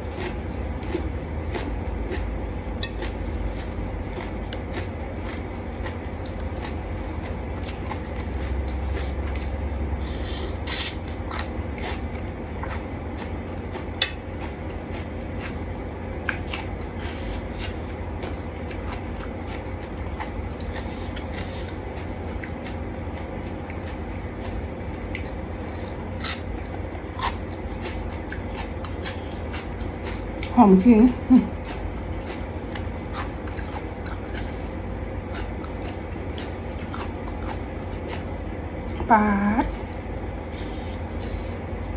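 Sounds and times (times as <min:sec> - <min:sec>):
wet chewing and biting: 0:00.0 - 0:30.6, 0:31.5 - 0:39.0, 0:39.7 - 0:41.8
low hum: 0:00.0 - 0:41.9.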